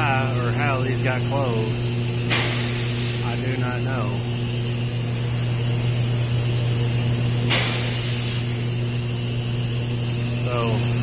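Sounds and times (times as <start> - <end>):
steam vent hissing: 0.0 - 11.0.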